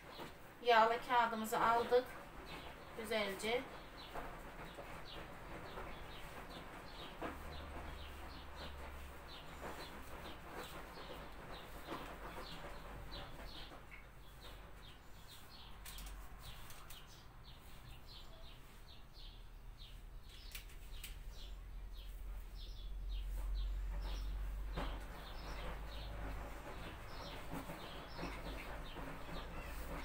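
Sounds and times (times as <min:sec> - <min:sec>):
small bird chirping: 0:01.6 - 0:30.0.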